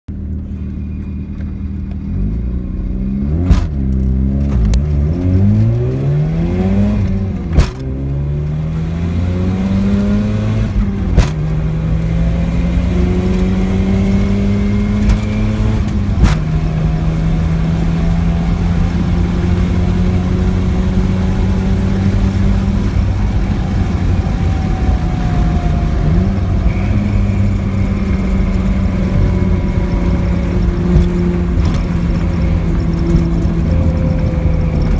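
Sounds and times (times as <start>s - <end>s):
abnormal engine noise: 0.1s - 34.9s
rotary engine accelerating: 0.4s - 34.9s.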